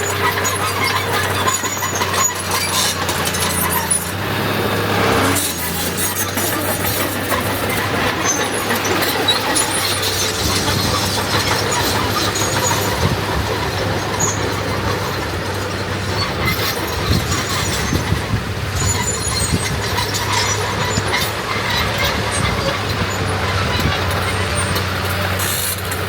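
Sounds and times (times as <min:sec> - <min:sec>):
bulldozer diesel engine: 0:00.0 - 0:26.0
steel tracks clanking and squeaking: 0:00.0 - 0:26.0.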